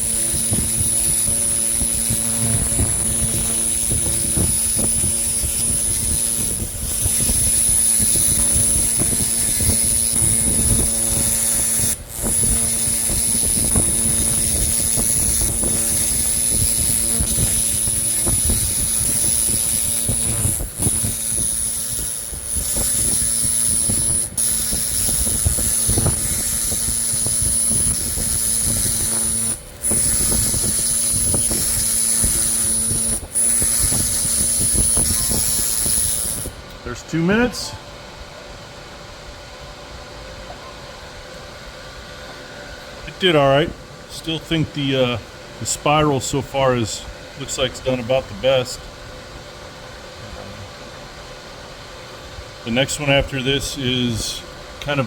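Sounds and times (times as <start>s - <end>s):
laser cleaner whine: 0.0s - 51.9s.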